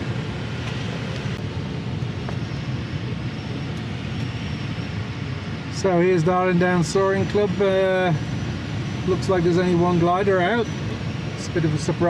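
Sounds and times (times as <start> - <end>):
airflow rushing over canopy: 0.0 - 12.0.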